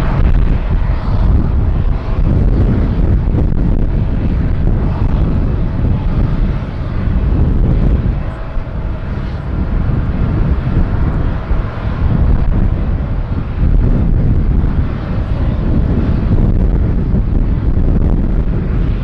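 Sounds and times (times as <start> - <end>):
faint jet whine: 0.0 - 19.0
jet engines rumbling: 0.0 - 19.0.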